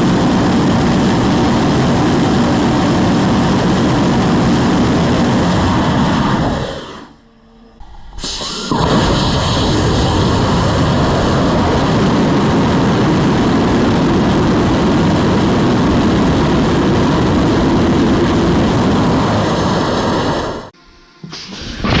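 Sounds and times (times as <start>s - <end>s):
rocket engine rumble and hiss: 0.0s - 20.8s.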